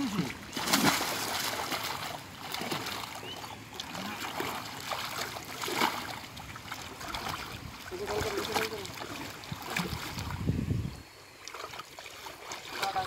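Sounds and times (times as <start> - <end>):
fish thrashing in pond water: 0.0 - 10.5, 11.4 - 13.0
water splashing: 0.0 - 10.7, 11.3 - 13.0.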